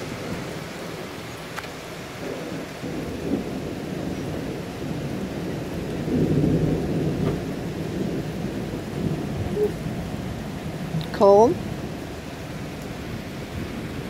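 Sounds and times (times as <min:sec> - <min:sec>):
rolling thunder rumble: 0:00.0 - 0:14.0
steady rain falling: 0:00.0 - 0:14.0.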